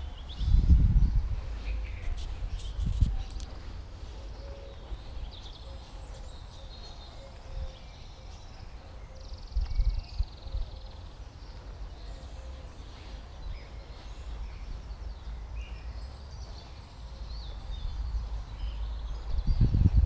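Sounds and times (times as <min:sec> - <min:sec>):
wind rumbling on microphone: 0:00.0 - 0:06.7, 0:07.4 - 0:16.7, 0:17.3 - 0:20.0.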